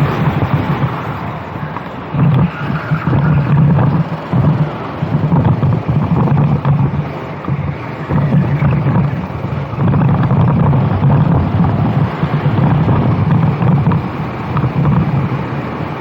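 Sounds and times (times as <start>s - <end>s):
racing kart engine: 0.0s - 16.0s
wind rushing over microphone: 0.0s - 16.0s.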